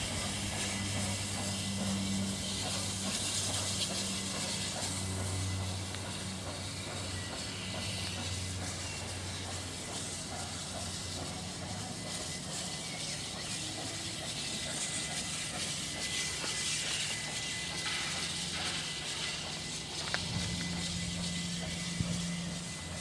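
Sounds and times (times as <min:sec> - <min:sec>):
steam hissing: 0:00.0 - 0:23.0
train rumbling: 0:00.0 - 0:23.0.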